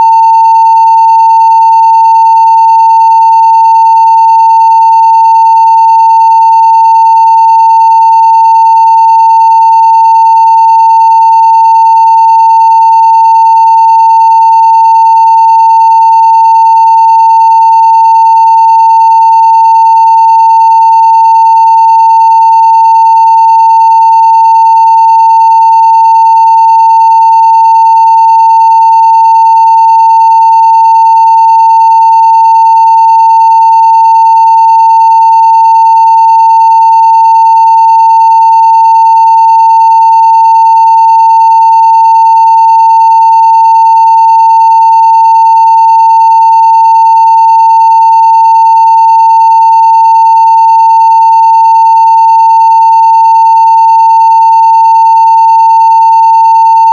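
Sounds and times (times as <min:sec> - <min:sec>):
sine-wave test tone: 0:00.0 - 0:56.9.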